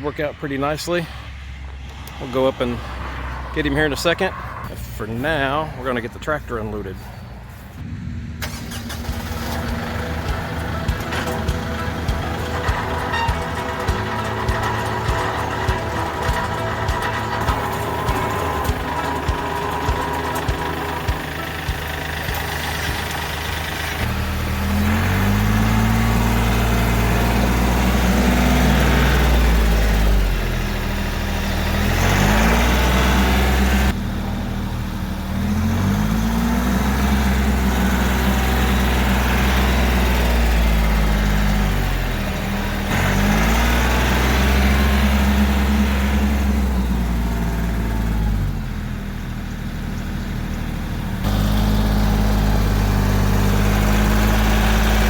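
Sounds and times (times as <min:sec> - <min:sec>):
tractor diesel engine revving: 0:01.8 - 0:55.0.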